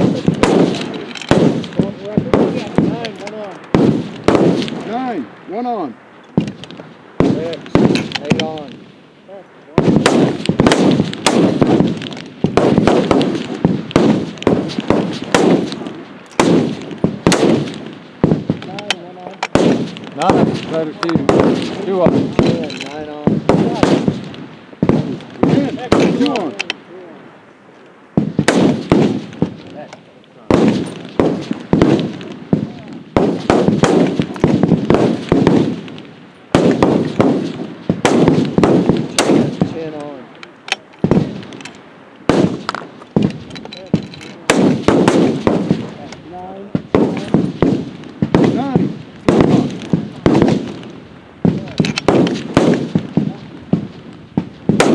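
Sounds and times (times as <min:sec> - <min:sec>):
rifle shots with echo: 0:00.0 - 0:05.7, 0:06.3 - 0:09.0, 0:09.7 - 0:26.8, 0:28.2 - 0:54.9.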